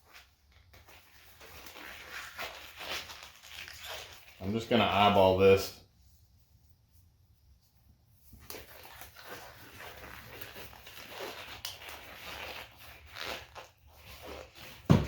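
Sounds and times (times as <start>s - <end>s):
plastic cups crinkling and rustling: 0.0s - 5.7s, 8.3s - 15.0s.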